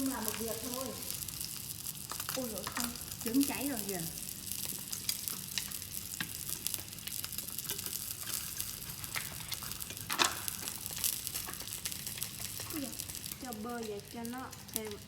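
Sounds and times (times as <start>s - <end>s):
egg sizzling in a pan: 0.0s - 15.0s
oil spitting and crackling: 0.0s - 15.0s.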